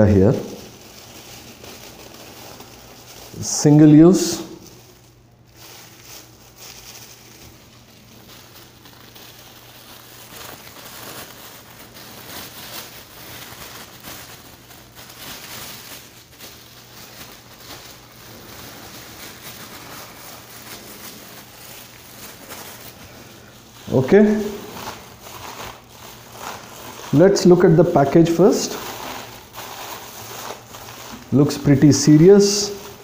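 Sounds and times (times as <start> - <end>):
plastic gloves crinkling: 0.0 - 33.0.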